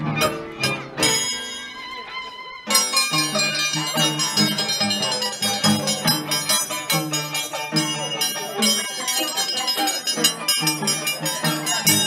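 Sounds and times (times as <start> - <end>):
live folk band music: 0.0 - 12.0.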